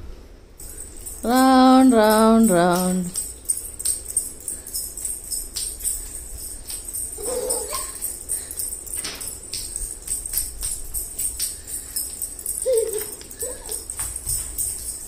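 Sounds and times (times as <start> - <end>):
small bells jingling: 0.6 - 15.0.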